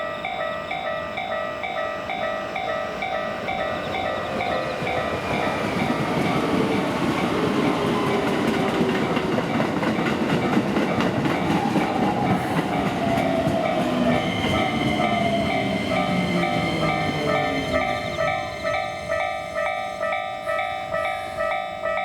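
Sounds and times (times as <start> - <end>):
level crossing warning bell: 0.0 - 12.0, 12.7 - 22.0
train wheels clattering on track: 3.1 - 22.0.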